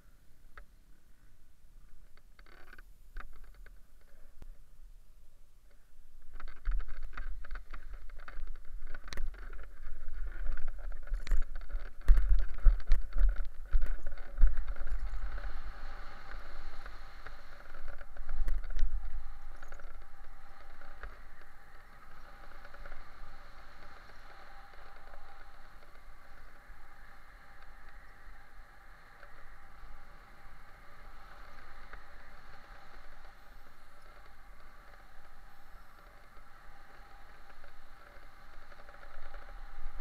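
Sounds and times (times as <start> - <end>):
light clicks and rustles: 1.8 - 4.6, 5.6 - 40.0
wind buffeting microphone: 6.3 - 40.0.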